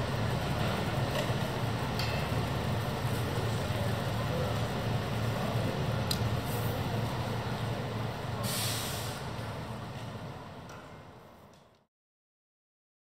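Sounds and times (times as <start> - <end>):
bus engine idling: 0.0 - 11.5.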